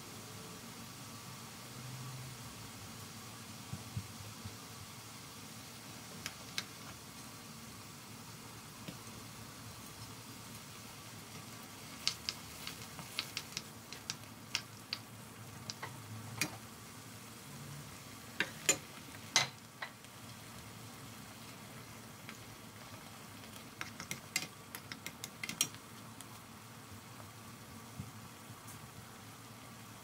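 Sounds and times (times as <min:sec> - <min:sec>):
broth simmering: 0:01.5 - 0:30.0.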